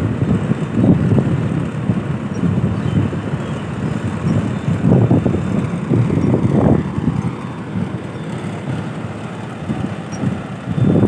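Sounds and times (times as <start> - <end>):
combine harvester rumbling: 0.0 - 11.0
wind buffeting microphone: 0.0 - 11.0.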